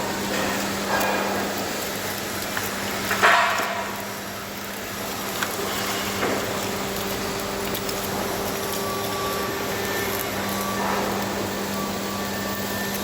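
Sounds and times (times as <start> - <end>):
industrial machinery roar: 0.0 - 13.0.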